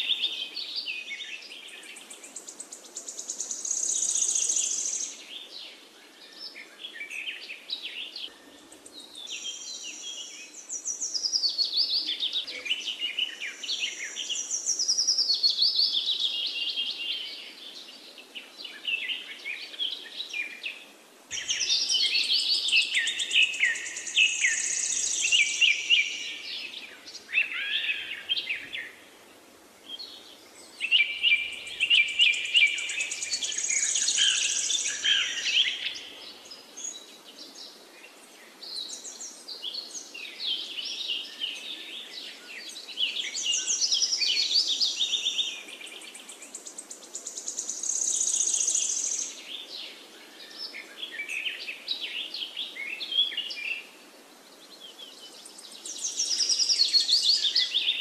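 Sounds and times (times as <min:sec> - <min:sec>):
birds chirping and trilling: 0:00.0 - 0:29.1, 0:29.9 - 0:53.9, 0:54.6 - 0:58.0.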